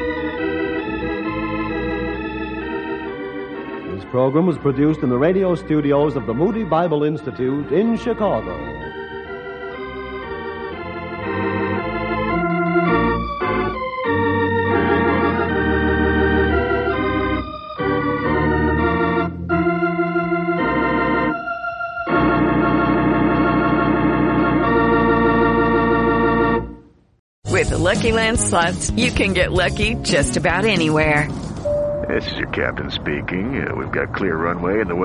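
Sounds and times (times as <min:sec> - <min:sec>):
organ music: 0:00.0 - 0:35.0.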